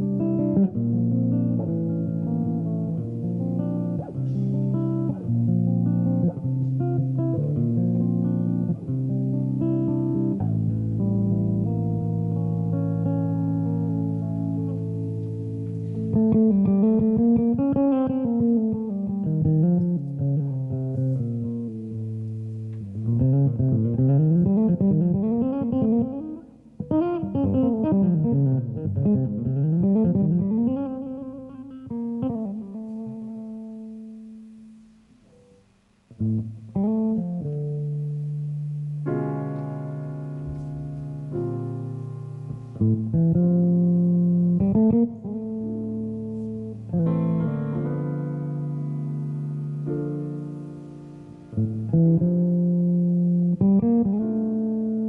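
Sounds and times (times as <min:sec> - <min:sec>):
solo jazz guitar: 0:00.0 - 0:55.0.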